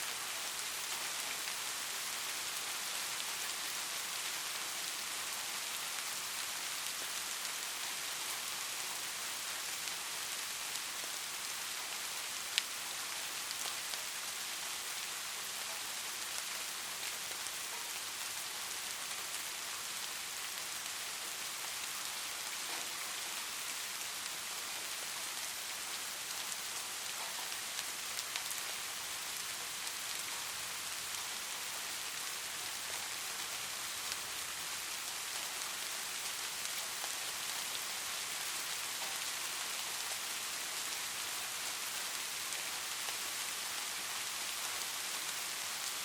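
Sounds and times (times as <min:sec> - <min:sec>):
light rain falling: 0:00.0 - 0:46.0.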